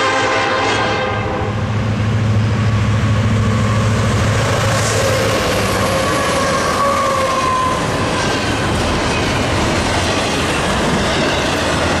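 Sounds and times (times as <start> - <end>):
diesel locomotive passing: 0.0 - 12.0.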